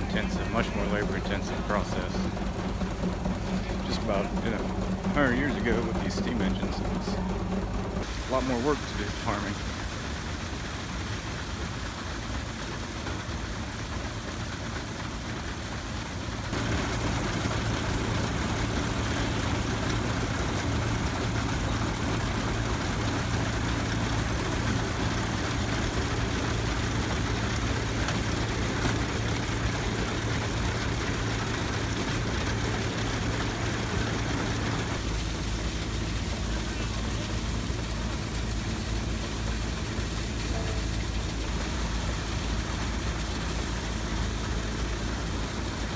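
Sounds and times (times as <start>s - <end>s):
engine running machinery: 0.0s - 45.9s.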